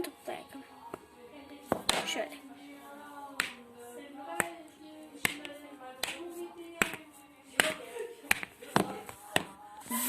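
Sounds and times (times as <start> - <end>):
soft music: 0.0 - 10.0.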